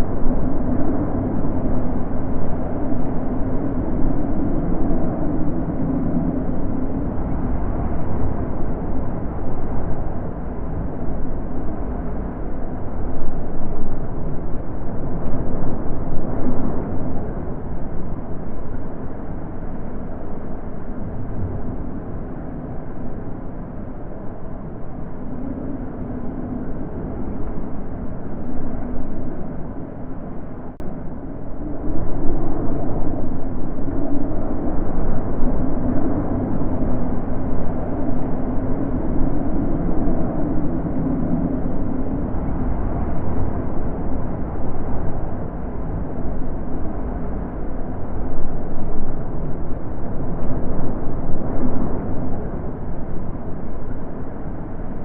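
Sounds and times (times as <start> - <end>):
wind blowing in gusts: 0.0 - 55.0.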